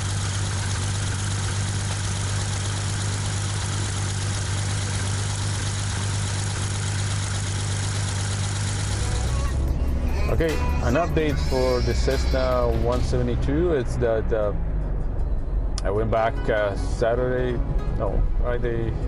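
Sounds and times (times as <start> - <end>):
airplane engine and propeller running: 0.0 - 19.0.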